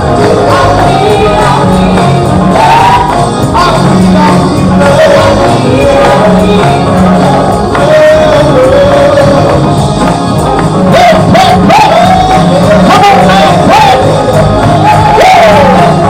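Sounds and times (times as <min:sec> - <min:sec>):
band with steady bass line: 0:00.0 - 0:16.0
person singing: 0:00.0 - 0:16.0.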